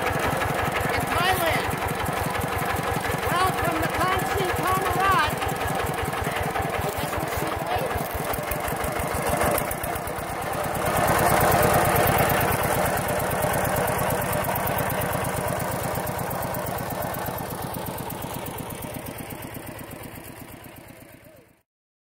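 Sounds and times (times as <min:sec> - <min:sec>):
diesel tractor engine thudding: 0:00.0 - 0:18.1.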